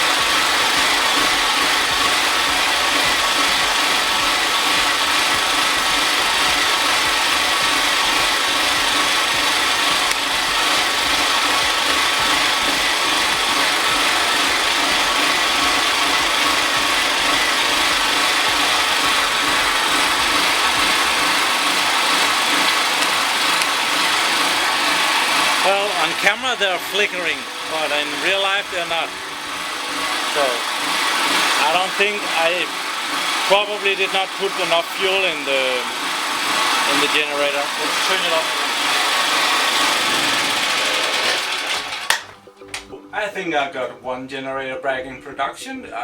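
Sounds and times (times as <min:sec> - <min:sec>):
generator engine running: 0:00.0 - 0:45.4.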